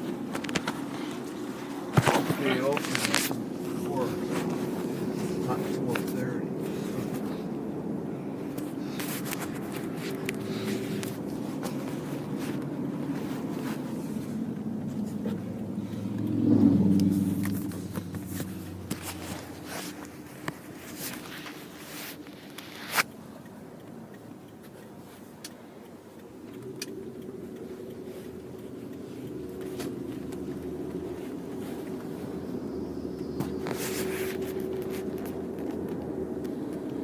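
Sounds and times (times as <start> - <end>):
car engine humming: 0.0 - 37.0.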